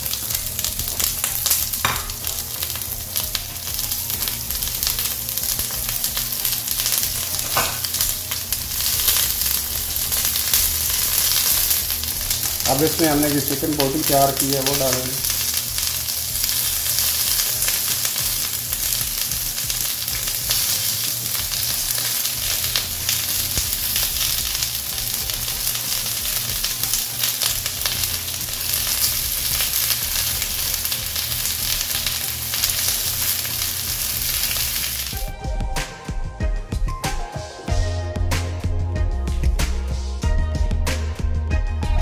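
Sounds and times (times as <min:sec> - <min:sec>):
meat sizzling in hot oil: 0:00.0 - 0:35.3
music: 0:00.0 - 0:42.0.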